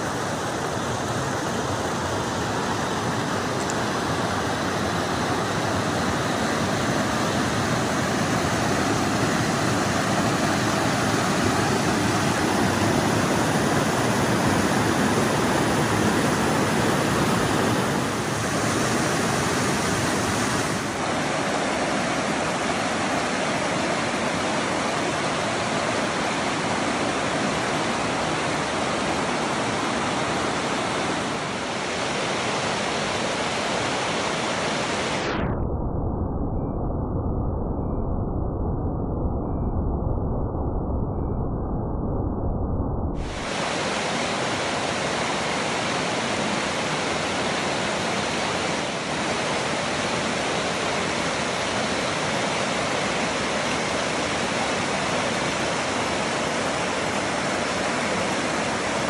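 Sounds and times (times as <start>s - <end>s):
water rushing over rocks: 0.0s - 35.3s, 43.2s - 59.0s.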